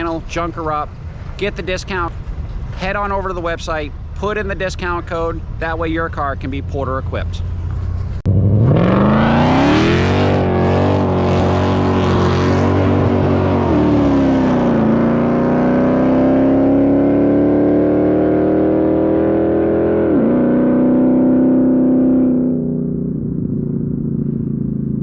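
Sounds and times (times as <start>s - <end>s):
car engine at full throttle: 4.9s - 25.0s.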